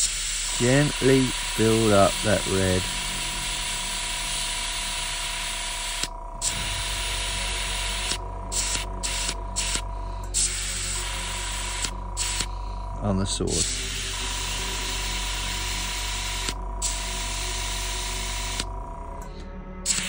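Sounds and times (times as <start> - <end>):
airbrush hissing: 0.0 - 18.7
faint steady hum: 0.0 - 20.0.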